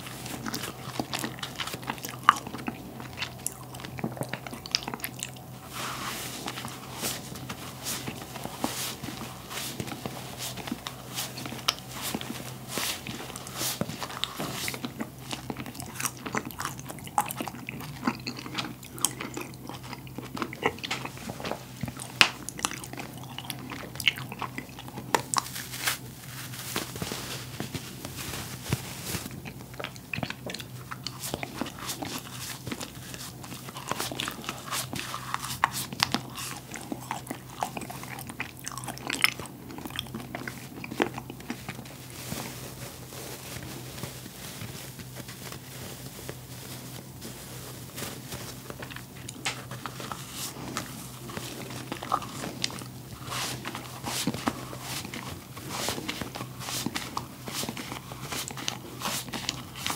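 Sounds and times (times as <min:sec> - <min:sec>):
chewing cotton candy: 0:00.0 - 0:59.9
cotton candy crackling: 0:00.0 - 0:59.9.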